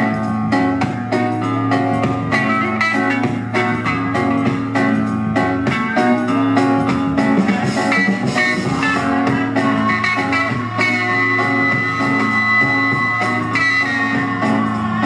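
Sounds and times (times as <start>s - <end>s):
electric guitar: 0.0s - 15.0s
loud rock music: 0.0s - 15.0s
steady drum beat: 0.8s - 15.0s.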